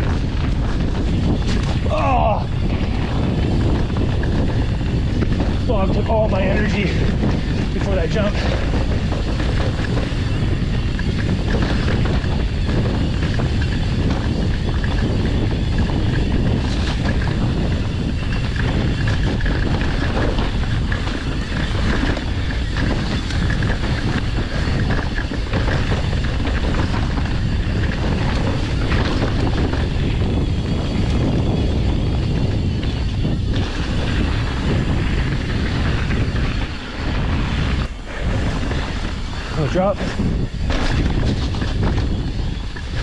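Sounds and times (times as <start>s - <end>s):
bike rattles and knocks: 0.0s - 43.0s
bike tyres on dirt: 0.0s - 43.0s
wind rumbling on microphone: 0.0s - 43.0s.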